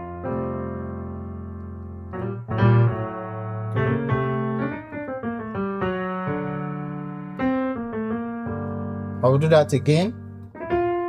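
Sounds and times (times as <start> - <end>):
piano playing jazz chords: 0.0 - 11.0.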